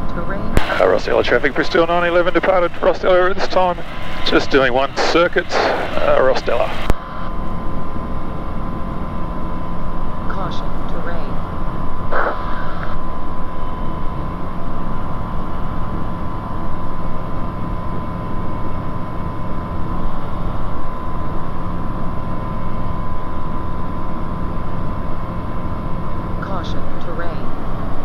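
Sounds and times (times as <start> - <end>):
aircraft engine and propeller: 0.0 - 28.0
high whine: 0.0 - 28.0.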